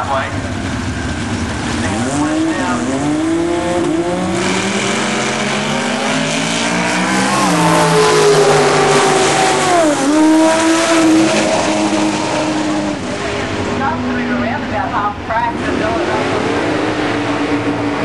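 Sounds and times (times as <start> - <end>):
rotary engine at full throttle: 0.0 - 18.0.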